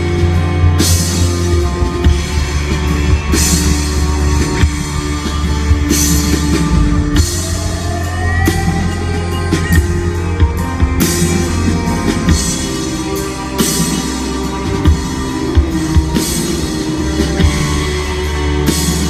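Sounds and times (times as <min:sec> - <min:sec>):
sustained low bass notes: 0:00.0 - 0:19.0.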